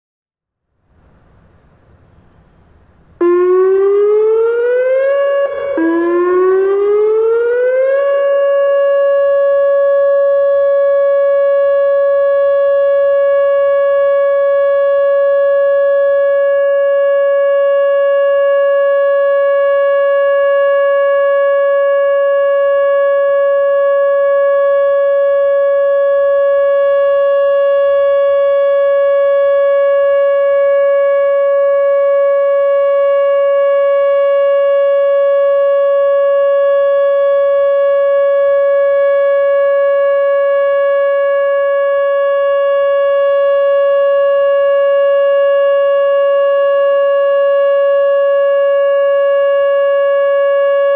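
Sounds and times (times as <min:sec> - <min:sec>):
warning siren steady tone: 0:00.6 - 0:50.9.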